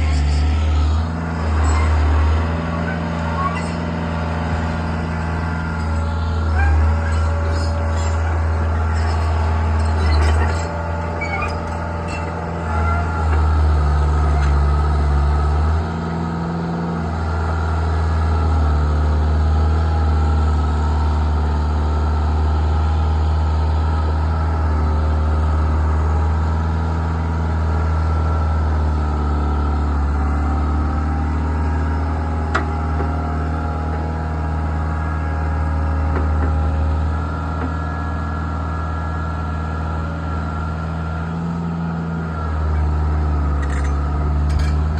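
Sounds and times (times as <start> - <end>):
skid steer engine running: 0.0 - 44.9.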